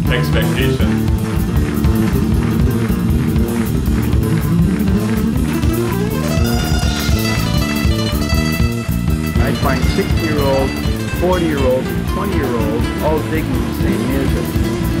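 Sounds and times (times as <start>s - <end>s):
drum kit beat: 0.0s - 15.0s
nylon-string guitar playing: 0.0s - 15.0s.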